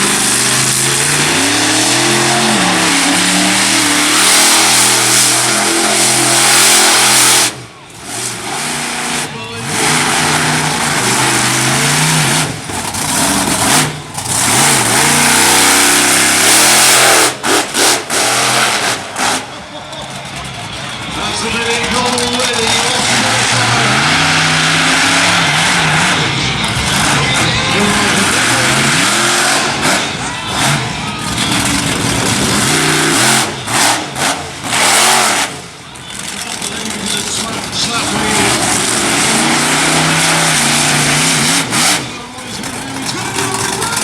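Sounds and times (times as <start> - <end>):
monster truck engine revving: 0.0 - 44.0.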